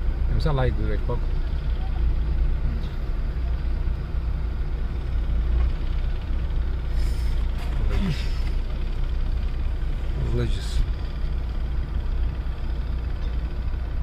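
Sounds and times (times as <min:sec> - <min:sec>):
vehicle road and engine rumble: 0:00.0 - 0:14.0.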